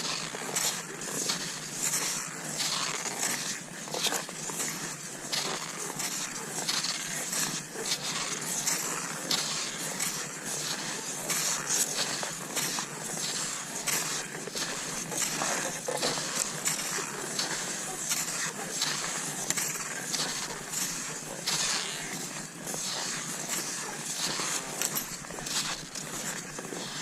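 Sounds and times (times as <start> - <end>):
skis crunching over snow: 0.0 - 27.0.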